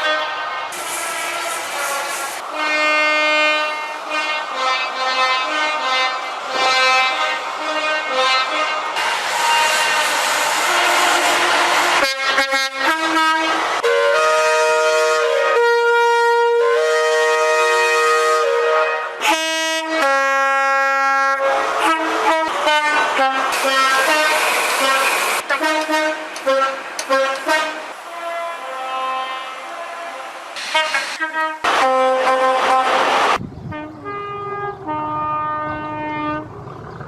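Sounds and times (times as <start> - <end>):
train air horn blasts: 0.0 - 36.5.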